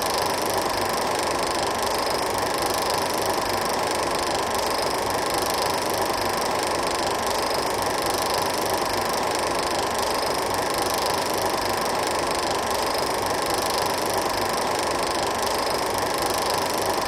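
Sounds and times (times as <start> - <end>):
film projector running: 0.0 - 17.0.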